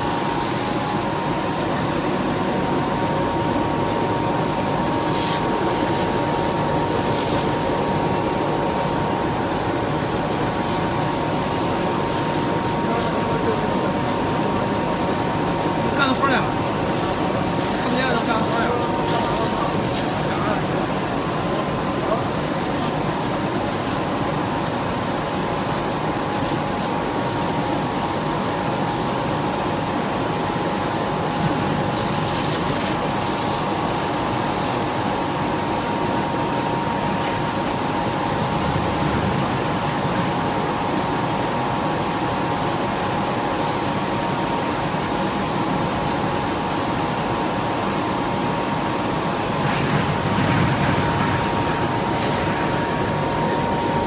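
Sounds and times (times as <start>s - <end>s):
laser cutter whirring and whining: 0.0s - 54.0s.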